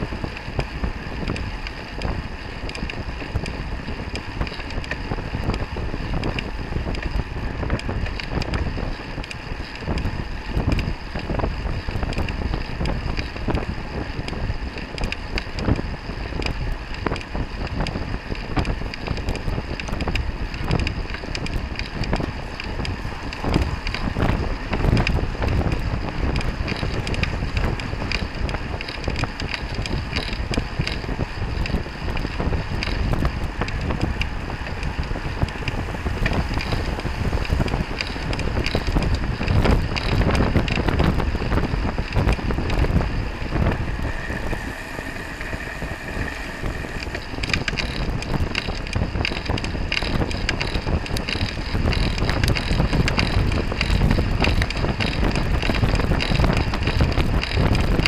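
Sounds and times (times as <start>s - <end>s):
bicycle rattling and clicking: 0.0s - 58.0s
tyre and road noise: 0.0s - 58.0s
wind rumbling on microphone: 0.0s - 58.0s.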